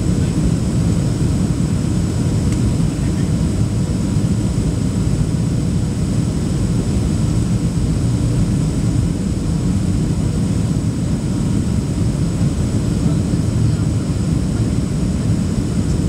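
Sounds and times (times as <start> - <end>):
airplane cabin rumble: 0.0 - 16.0
faint steady whines: 0.0 - 16.0.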